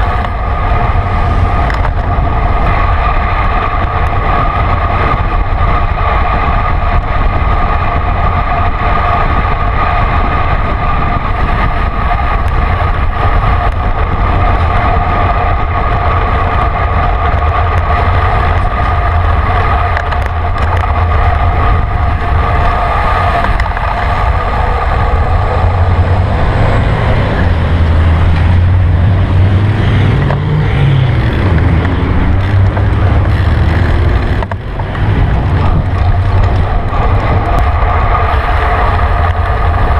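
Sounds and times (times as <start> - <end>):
low rumble: 0.0 - 39.9
road and traffic noise: 0.0 - 39.9
wind rushing over microphone: 0.0 - 39.9.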